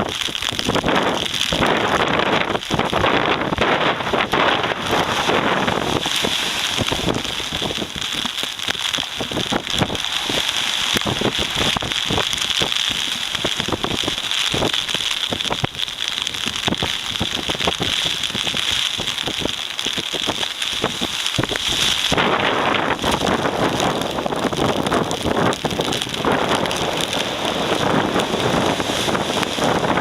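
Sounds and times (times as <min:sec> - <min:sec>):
heavy rain falling: 0:00.0 - 0:30.0
wind gust buffeting microphone: 0:00.0 - 0:30.0.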